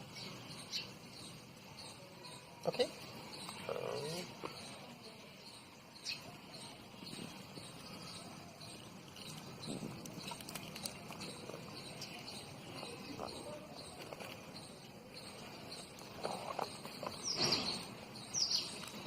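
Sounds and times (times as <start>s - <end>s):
faint insect chirping: 0.0s - 19.0s.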